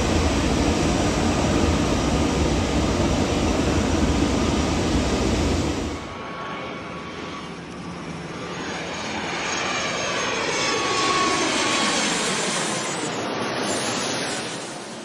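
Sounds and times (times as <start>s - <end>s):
jet airliner engines roaring: 0.0s - 15.0s.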